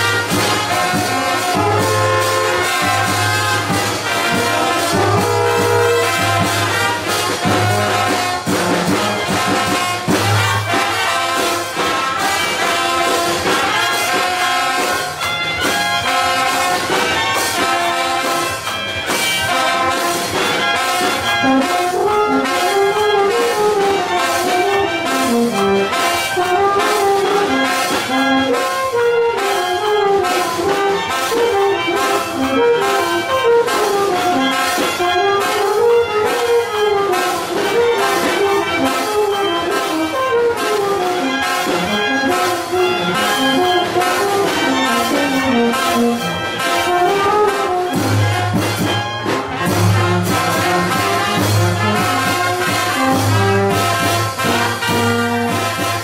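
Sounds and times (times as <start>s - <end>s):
drum beat: 0.0s - 29.4s, 30.1s - 56.0s
brass band playing: 0.0s - 56.0s
low trombone line: 0.0s - 56.0s.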